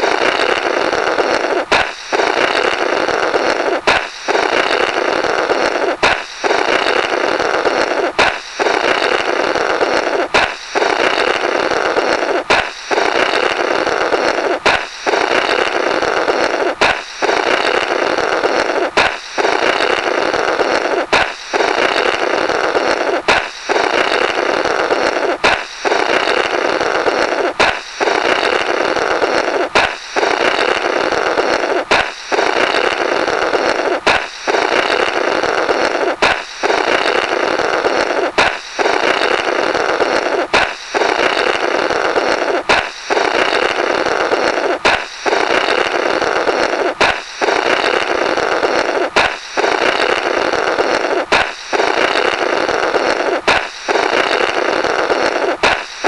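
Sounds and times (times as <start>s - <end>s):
balloon popping: 0.0s - 56.0s
rasping raspberry through rubber: 0.0s - 56.0s.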